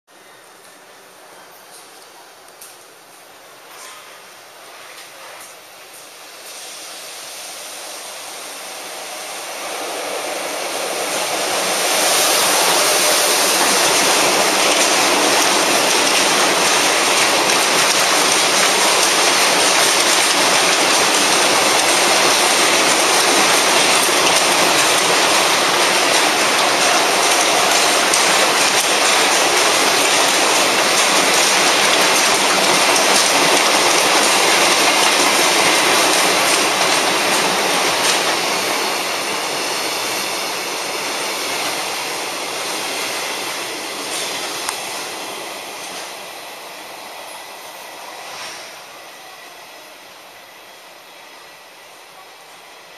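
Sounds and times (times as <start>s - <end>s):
freight train passing at speed: 0.1s - 52.9s.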